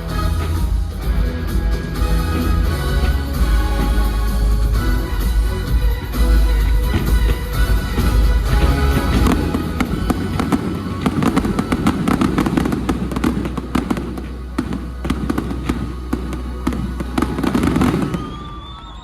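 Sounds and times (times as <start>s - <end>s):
steady low rumble: 0.0s - 18.0s
fireworks bangs and crackles: 0.0s - 19.0s.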